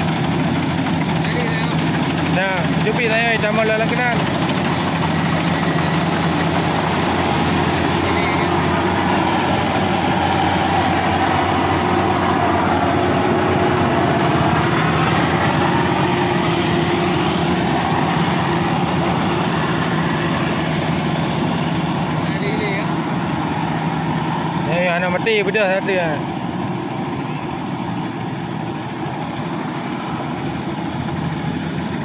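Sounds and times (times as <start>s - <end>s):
diesel harvester engine drone: 0.0s - 32.0s.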